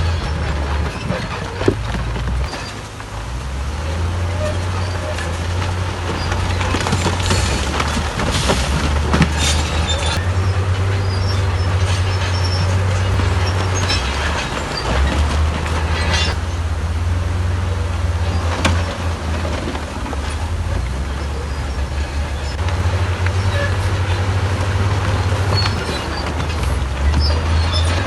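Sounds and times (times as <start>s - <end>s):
diesel engine rumble: 0.0s - 28.0s.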